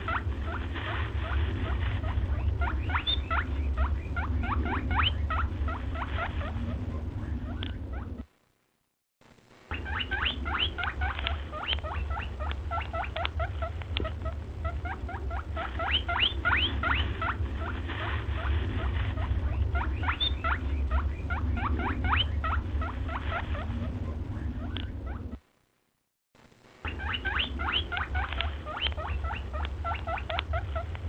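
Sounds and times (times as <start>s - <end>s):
small animals squeaking: 0.0s - 8.3s, 9.7s - 25.4s, 26.8s - 31.0s
steady low hum: 0.0s - 31.0s.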